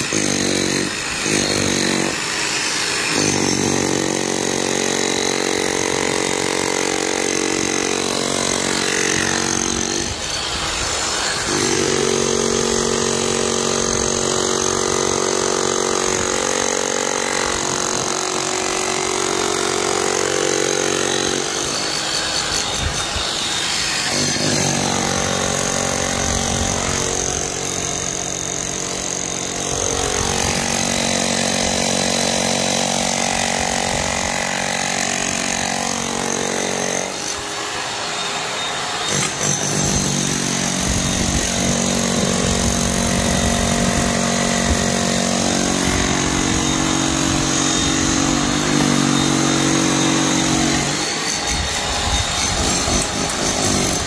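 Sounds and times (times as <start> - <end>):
demolition hammer chiselling concrete: 0.0 - 54.0.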